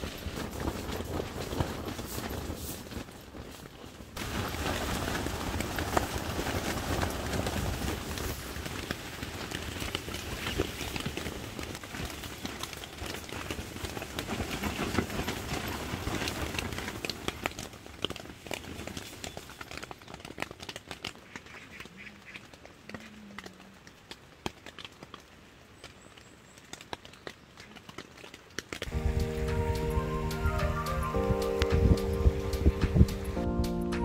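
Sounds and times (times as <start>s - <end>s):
rain tapping on tent fabric: 0.0s - 34.0s
wind: 0.0s - 34.0s.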